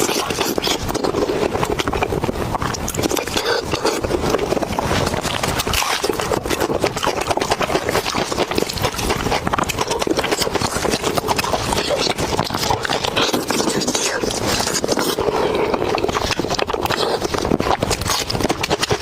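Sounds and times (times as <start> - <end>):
close chewing and crunching: 0.0 - 19.0.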